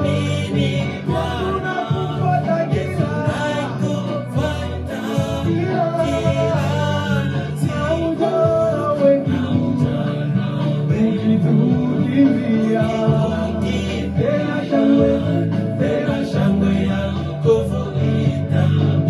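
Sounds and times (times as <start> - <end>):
gospel singing over a band: 0.0 - 19.0.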